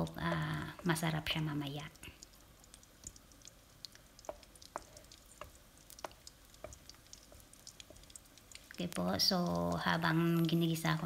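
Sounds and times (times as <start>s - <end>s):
onions sizzling in a frying pan: 0.0s - 11.0s
stirring ticks and clicks: 0.0s - 11.0s.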